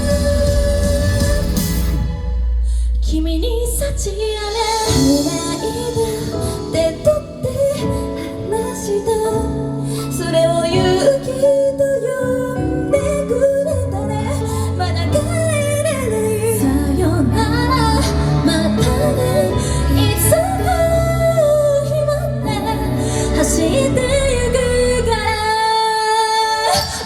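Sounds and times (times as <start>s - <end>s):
pop band music: 0.0s - 27.0s
woman singing: 0.0s - 27.0s.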